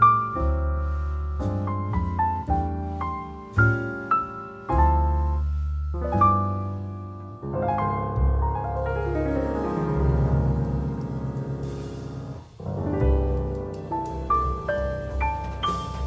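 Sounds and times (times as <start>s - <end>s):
background piano music: 0.0s - 16.0s.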